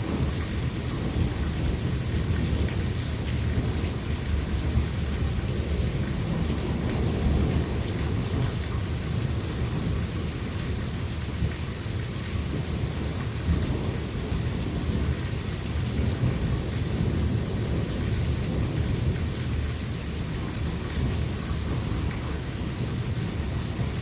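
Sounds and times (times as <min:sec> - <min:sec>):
low rumble of thunder: 0:00.0 - 0:24.0
steady rain: 0:00.0 - 0:24.0.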